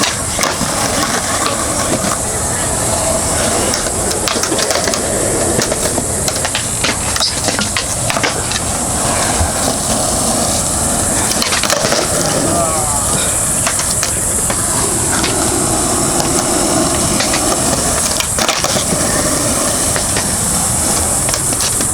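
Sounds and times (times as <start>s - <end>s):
cicadas buzzing: 0.0s - 21.9s
skateboard clacks: 0.0s - 21.9s
skateboard wheels rolling on concrete: 0.0s - 21.9s.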